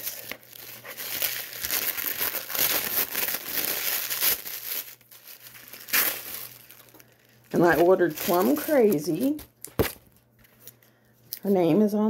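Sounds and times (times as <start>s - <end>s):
wrapping paper crackling and rustling: 0.0s - 11.5s.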